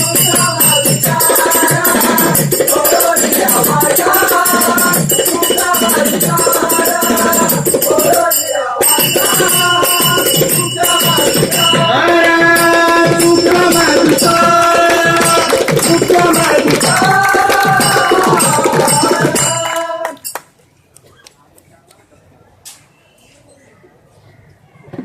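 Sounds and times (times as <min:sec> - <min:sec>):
hand cymbals and jingling percussion: 0:00.0 - 0:20.4.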